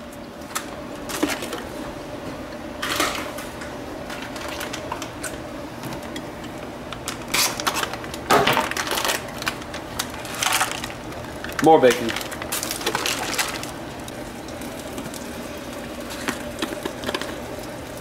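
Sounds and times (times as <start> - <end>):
rustles and clatters of food handling: 0.4 - 1.8, 2.8 - 18.0.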